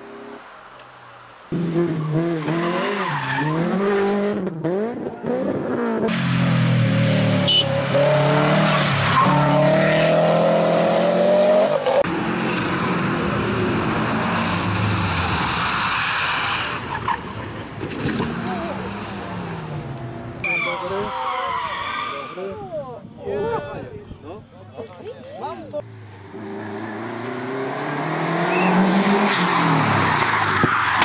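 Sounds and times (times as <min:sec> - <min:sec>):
rally car engines revving: 0:01.5 - 0:22.6, 0:25.8 - 0:31.0.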